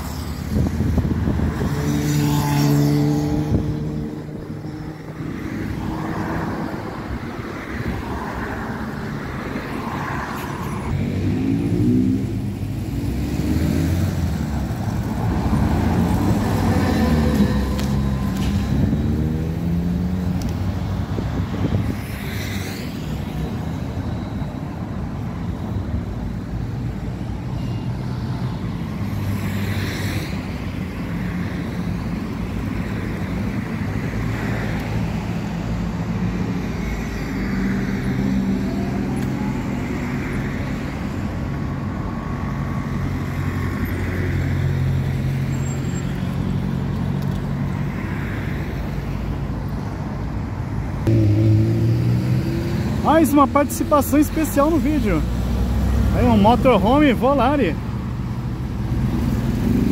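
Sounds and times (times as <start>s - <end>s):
road traffic: 0.0s - 59.9s
vehicles passing close by: 0.0s - 59.9s.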